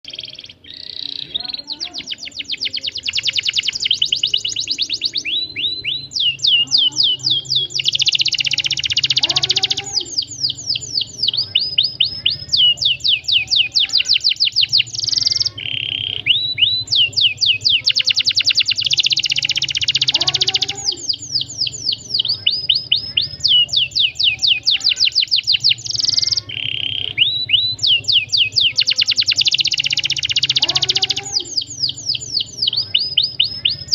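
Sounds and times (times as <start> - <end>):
canary singing trills and chirps: 0.0 - 33.9.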